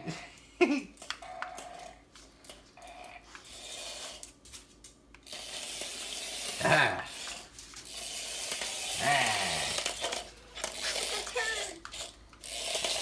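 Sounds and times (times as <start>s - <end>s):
toy motor whirring: 1.1s - 13.0s.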